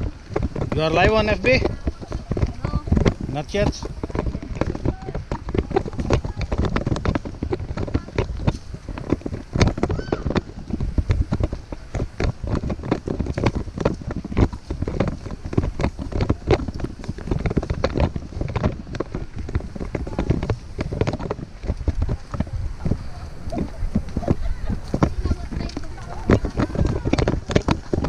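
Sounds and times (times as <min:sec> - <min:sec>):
footsteps knocking and rustling: 0:00.0 - 0:28.0
wind buffeting microphone: 0:00.0 - 0:28.0.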